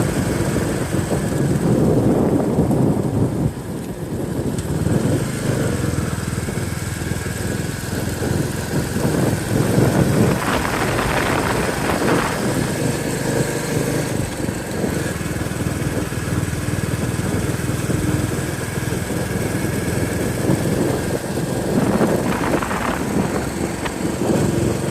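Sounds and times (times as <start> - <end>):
motorcycle engine running: 0.0 - 24.9
wind gusts on microphone: 0.0 - 24.9.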